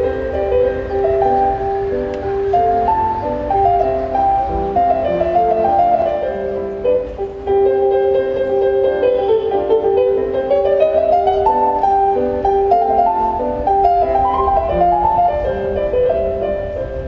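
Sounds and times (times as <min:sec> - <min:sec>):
grand piano playing classical piece: 0:00.0 - 0:17.0.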